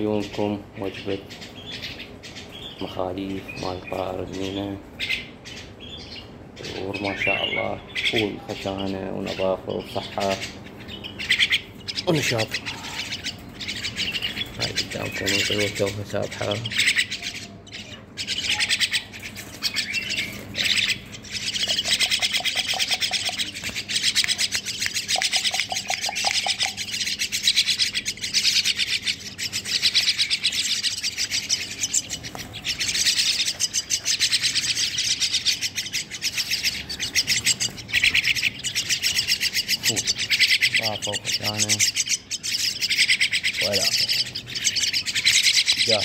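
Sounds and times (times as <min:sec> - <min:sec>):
young birds chattering calls: 0:00.0 - 0:46.0.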